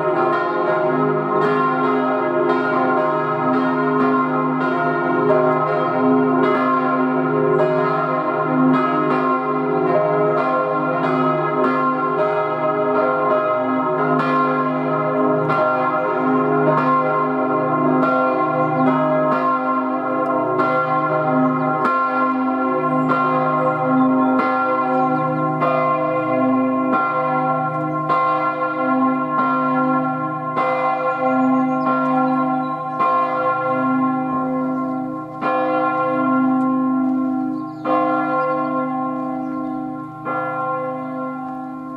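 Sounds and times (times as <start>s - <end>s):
church bells ringing in a peal: 0.0s - 41.9s.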